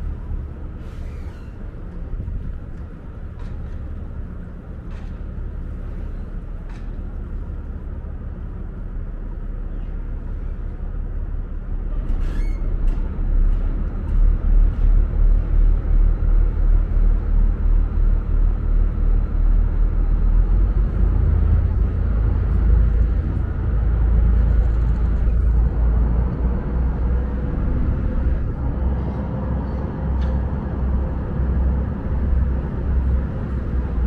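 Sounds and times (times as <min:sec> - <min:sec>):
ship engines droning: 0:00.0 - 0:34.0.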